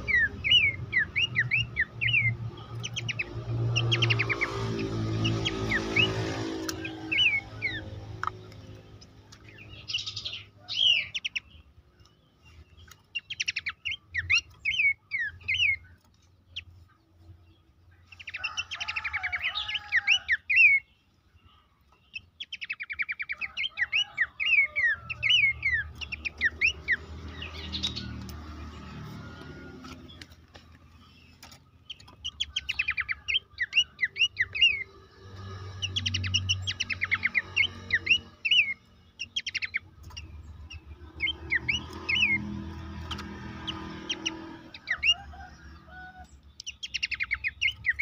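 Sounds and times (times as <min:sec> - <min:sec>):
bird chattering trills: 0:00.0 - 0:17.2, 0:18.0 - 0:21.0, 0:22.0 - 0:48.0.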